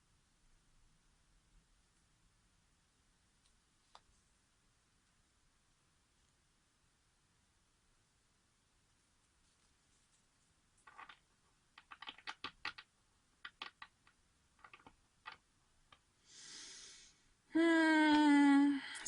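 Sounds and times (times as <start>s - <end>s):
soft hiss: 0.0s - 11.9s, 12.8s - 19.0s.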